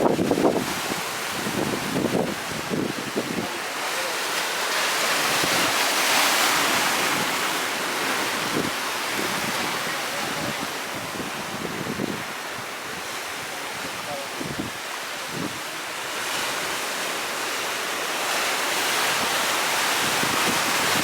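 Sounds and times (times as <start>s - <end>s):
wind buffeting microphone: 0.0s - 3.6s, 5.0s - 17.6s, 18.4s - 21.0s
sea surf breaking on shore: 0.0s - 21.0s.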